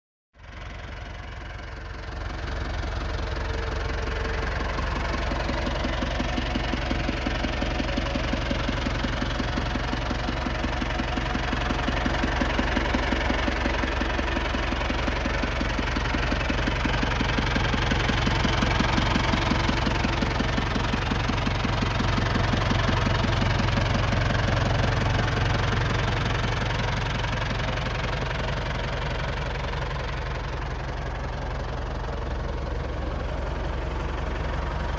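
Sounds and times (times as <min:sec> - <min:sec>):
tractor diesel engine idling: 0:00.4 - 0:34.9.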